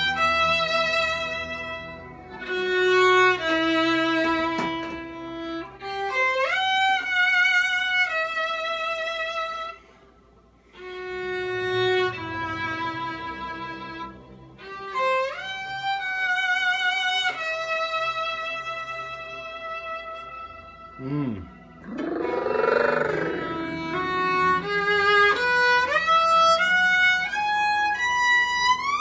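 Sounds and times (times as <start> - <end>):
solo violin with vibrato: 0.0 - 9.8, 10.7 - 21.0, 23.3 - 29.0.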